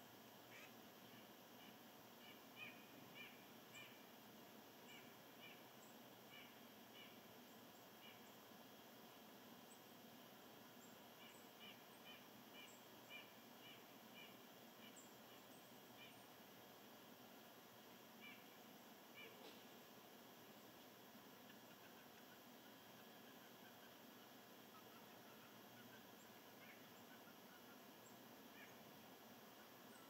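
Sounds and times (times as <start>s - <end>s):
faint outdoor ambience: 0.0s - 30.0s.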